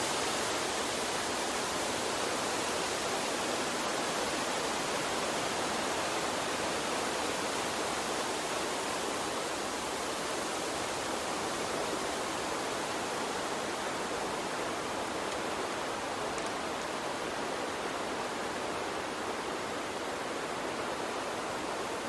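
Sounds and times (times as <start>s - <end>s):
water stream flowing: 0.0s - 22.0s.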